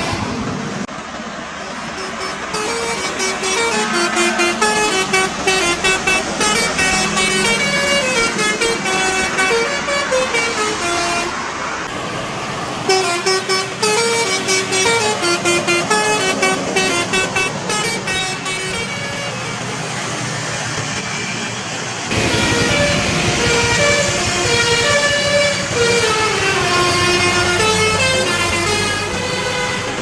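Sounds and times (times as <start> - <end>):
bus horn playing a tune: 1.6 - 11.8, 12.8 - 20.2, 22.1 - 30.0.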